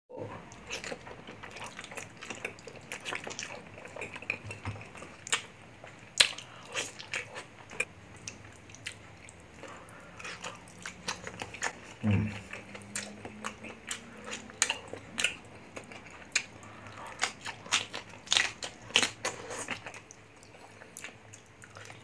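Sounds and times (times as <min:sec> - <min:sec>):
man chewing with mouth clicks: 0:00.2 - 0:22.0.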